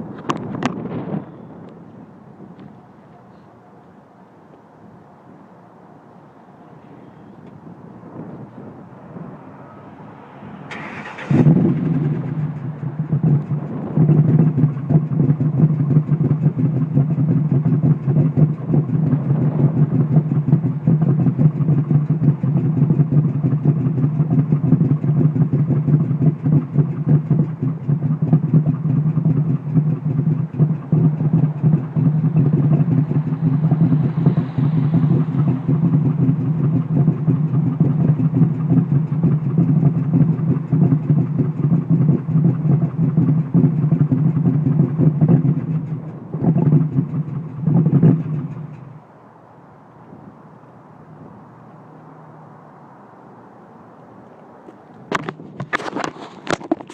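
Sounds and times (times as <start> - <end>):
car engine idling unevenly: 0.0 - 56.9.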